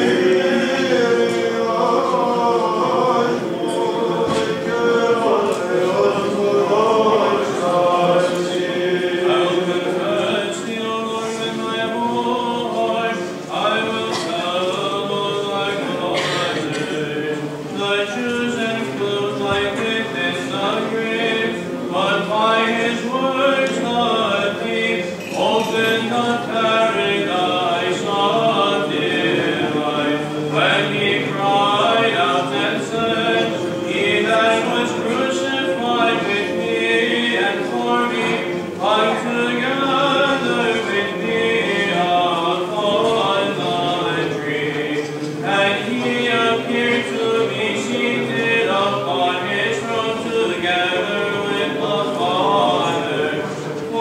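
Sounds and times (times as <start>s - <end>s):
voices chanting a melody: 0.0s - 54.0s.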